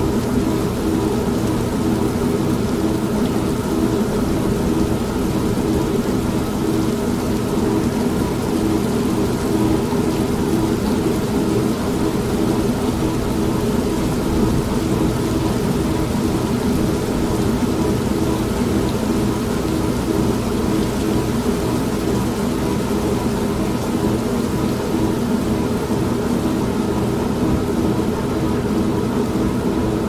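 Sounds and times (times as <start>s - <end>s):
steady rain: 0.0s - 30.0s
washing machine motor hum: 0.0s - 30.0s.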